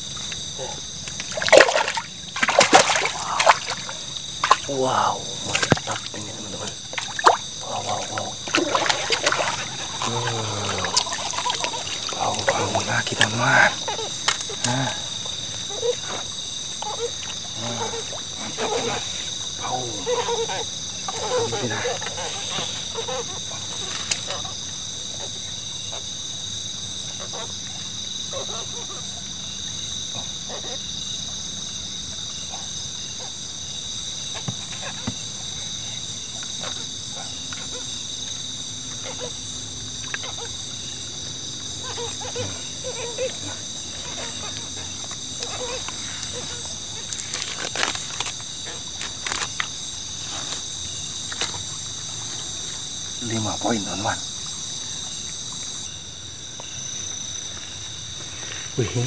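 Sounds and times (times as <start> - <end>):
night insects trilling: 0.0 - 59.0.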